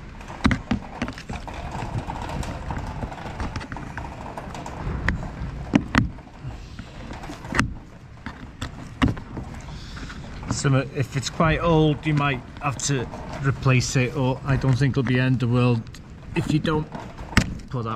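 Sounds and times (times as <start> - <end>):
low background rumble: 0.0 - 17.9.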